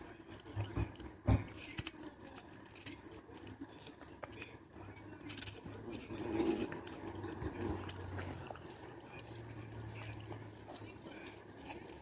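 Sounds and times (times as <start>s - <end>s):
dog chewing watermelon: 0.0s - 12.0s
low steady hum: 0.0s - 12.0s.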